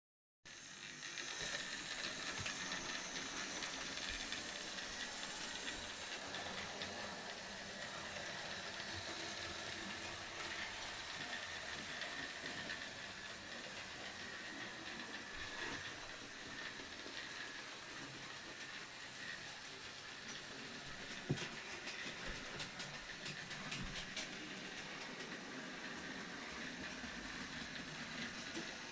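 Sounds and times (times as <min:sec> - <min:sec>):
model train running on track: 0:00.5 - 0:28.9.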